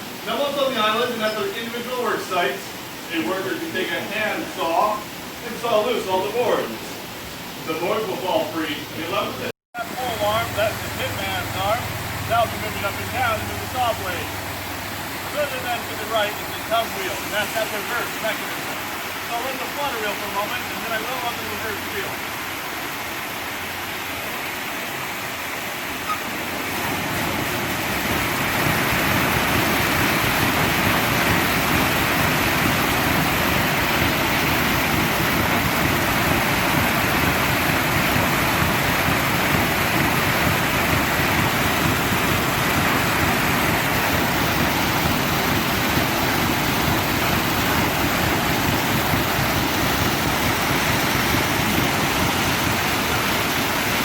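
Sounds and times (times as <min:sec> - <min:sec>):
water rushing through a water wheel: 0:00.0 - 0:54.0.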